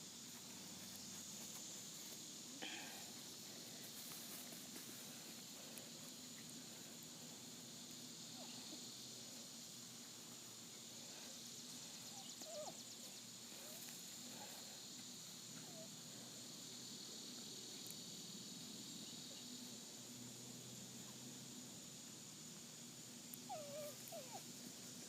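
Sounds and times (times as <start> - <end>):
faint high hiss: 0.0 - 25.0.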